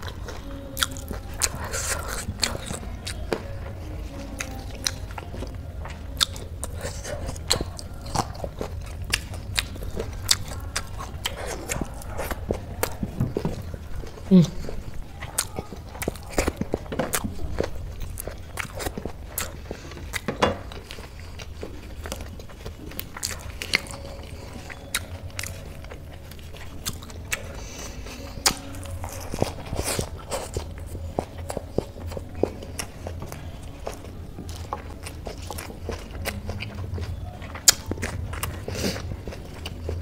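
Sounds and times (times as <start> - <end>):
crunchy chewing: 0.0 - 40.0
low steady hum: 0.0 - 40.0.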